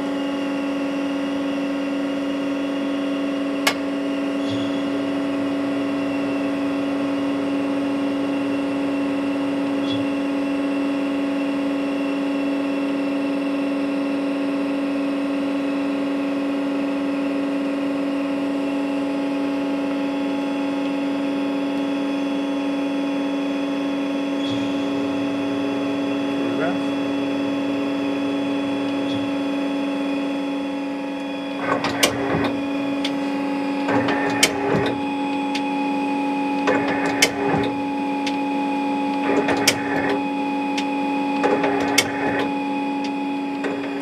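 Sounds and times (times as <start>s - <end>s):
lathe machine hum: 0.0s - 44.0s.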